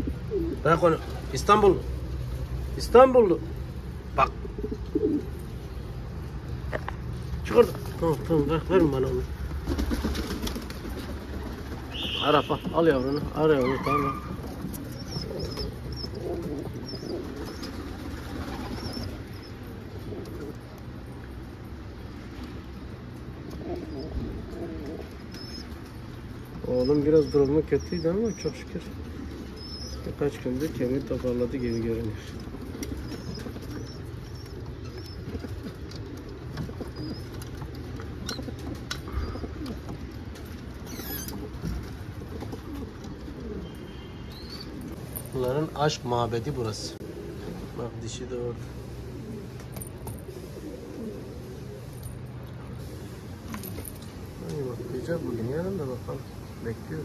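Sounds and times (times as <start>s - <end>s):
pigeons cooing: 0.0s - 6.6s, 7.6s - 57.0s.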